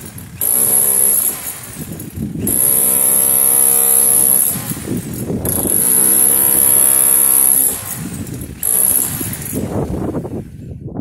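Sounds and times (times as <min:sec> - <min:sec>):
jackhammer chiselling metal: 0:00.0 - 0:10.7.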